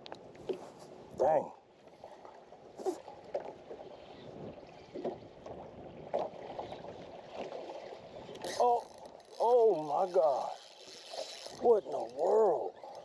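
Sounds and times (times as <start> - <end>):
small waves slapping a boat hull: 1.8 - 13.0.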